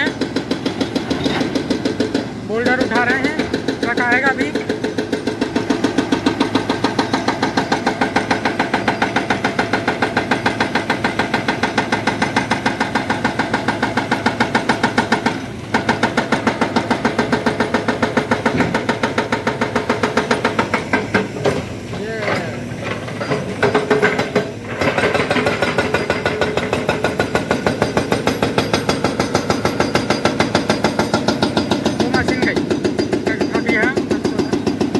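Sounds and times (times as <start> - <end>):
excavator engine: 0.0 - 34.9
hydraulic rock breaker hammering: 0.0 - 34.9.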